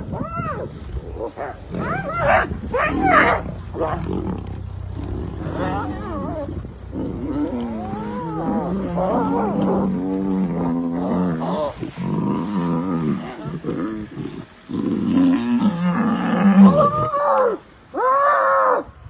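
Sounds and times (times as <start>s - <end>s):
lions moaning and growling: 0.0s - 18.4s
hyenas calling: 0.0s - 18.9s.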